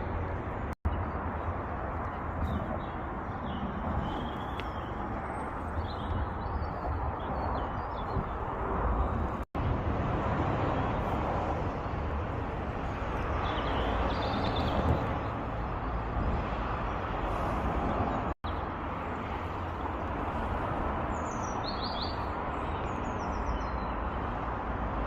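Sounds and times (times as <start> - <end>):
small birds chirping: 0.5 - 9.4, 11.8 - 16.0, 16.8 - 24.4.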